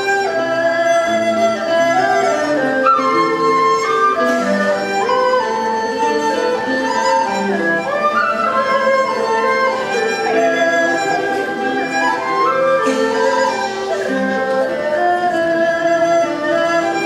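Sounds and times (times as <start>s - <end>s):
bamboo flute melody: 0.0s - 17.0s
lutes and strings accompanying: 0.0s - 17.0s.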